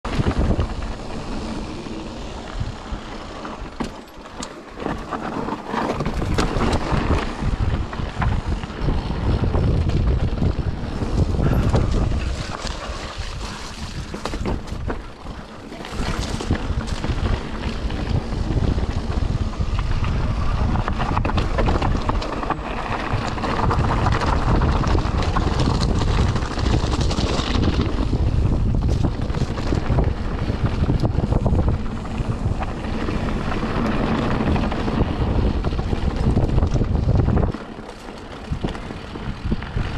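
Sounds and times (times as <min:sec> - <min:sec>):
wind buffeting microphone: 0:00.0 - 0:03.9, 0:04.8 - 0:39.9
bike knocking and rattling: 0:00.1 - 0:39.9.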